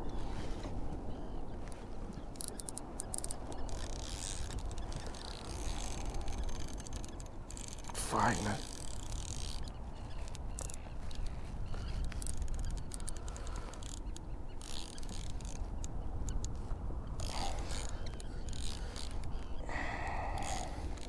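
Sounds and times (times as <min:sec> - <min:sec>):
fishing reel clicking: 0:02.3 - 0:21.0.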